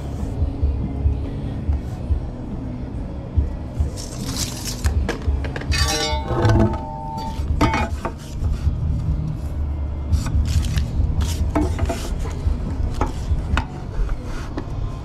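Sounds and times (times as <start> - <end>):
steady low rumble: 0.0 - 7.7, 8.3 - 14.2.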